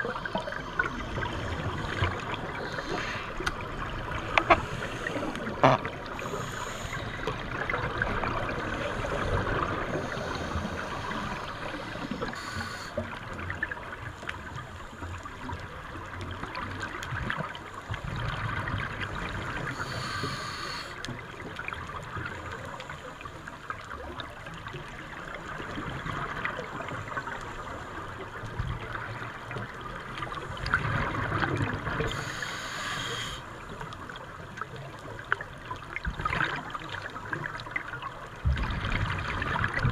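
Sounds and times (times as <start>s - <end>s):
scuba exhaust bubbles gurgling: 0.0s - 39.9s
underwater hiss and rumble: 0.0s - 39.9s.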